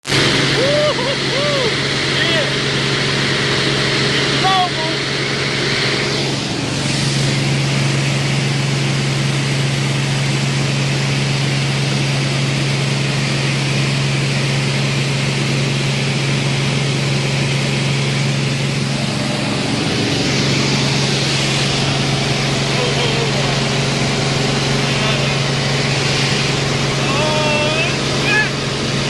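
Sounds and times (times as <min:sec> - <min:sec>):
broad rushing noise: 0:00.0 - 0:29.0
propeller engine hum: 0:00.0 - 0:29.0.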